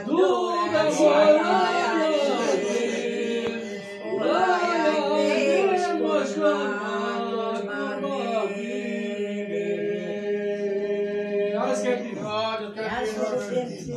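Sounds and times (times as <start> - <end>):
group singing folk song: 0.0 - 13.9.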